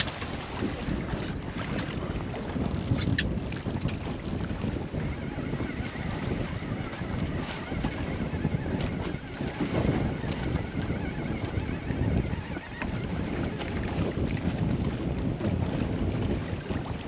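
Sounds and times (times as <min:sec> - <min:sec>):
small waves lapping and splashing: 0:00.0 - 0:17.0
wind gusting on microphone: 0:00.0 - 0:17.0.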